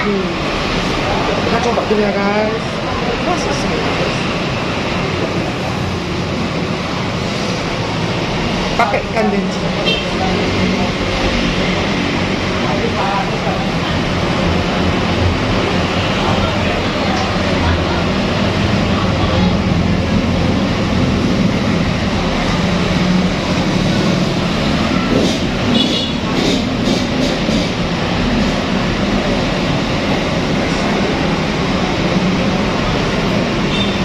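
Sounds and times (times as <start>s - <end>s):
loud steady rumbling: 0.0s - 34.0s.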